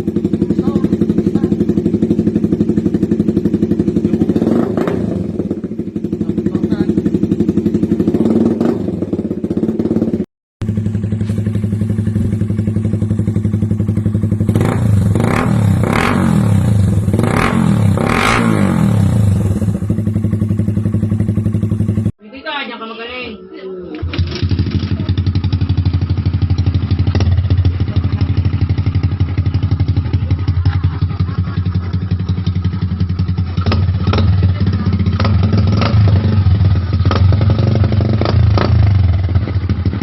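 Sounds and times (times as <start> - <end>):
motorcycle idling: 0.0 - 22.1, 24.0 - 40.0
motorcycle throttle revving: 0.0 - 22.1, 23.9 - 40.0.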